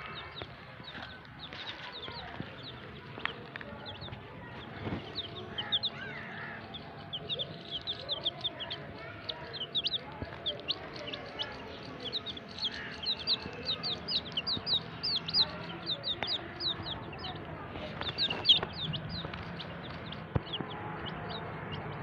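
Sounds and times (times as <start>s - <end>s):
baby chicks peeping: 0.0s - 22.0s.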